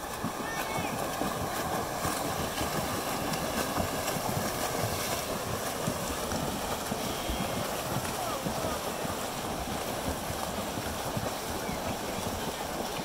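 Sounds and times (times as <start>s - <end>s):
swimmers splashing: 0.0s - 13.0s.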